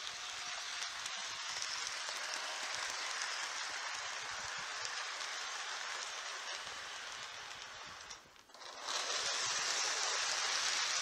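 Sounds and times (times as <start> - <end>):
model train wheels rattling: 0.0 - 11.0.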